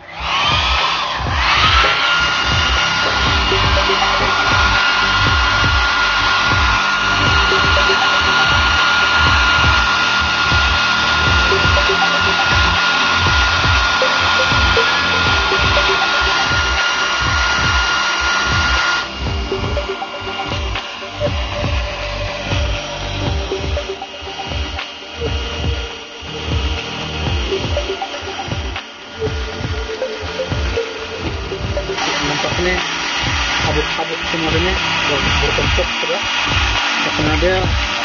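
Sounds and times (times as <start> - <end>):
electric air blower whining: 0.0 - 38.0.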